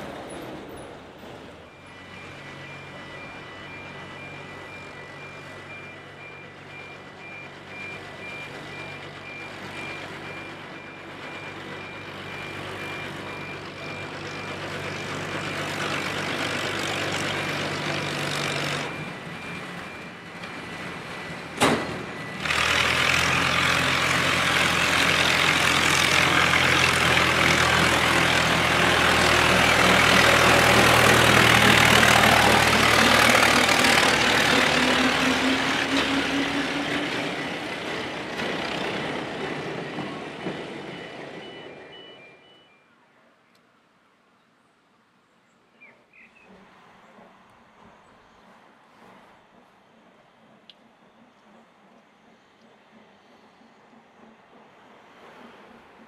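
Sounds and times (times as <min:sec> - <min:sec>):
locomotive engine: 0:00.0 - 0:44.0, 0:46.0 - 0:56.0
wheels rumbling on rails: 0:00.0 - 0:44.3, 0:45.1 - 0:56.0.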